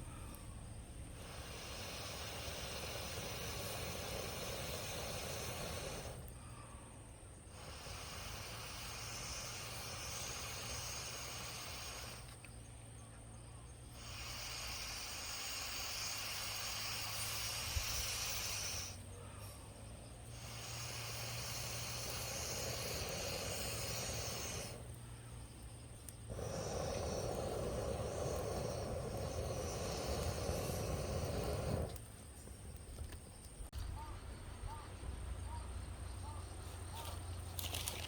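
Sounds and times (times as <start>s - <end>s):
hissing breaths blown onto a bonfire: 0.0s - 12.7s, 13.7s - 32.8s.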